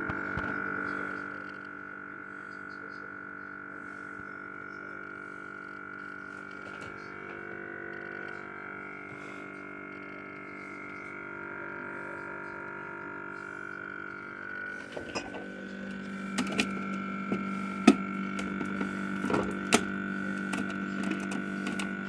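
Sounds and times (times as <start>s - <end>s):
refrigerator whine and hum: 0.0s - 22.0s.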